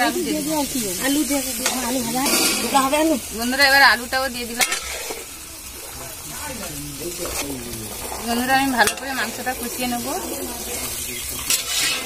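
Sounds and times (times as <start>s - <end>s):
people talking: 0.0s - 11.2s
chicken sizzling in oil: 0.0s - 12.0s
spatula scraping pan: 0.7s - 12.0s.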